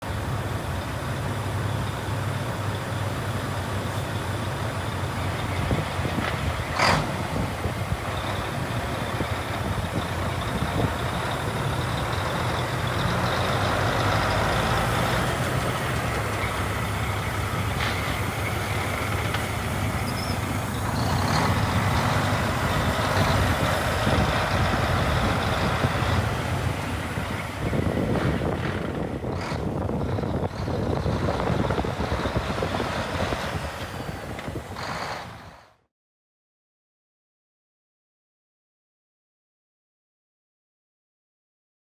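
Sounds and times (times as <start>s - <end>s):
diesel truck engine running: 0.0s - 35.8s.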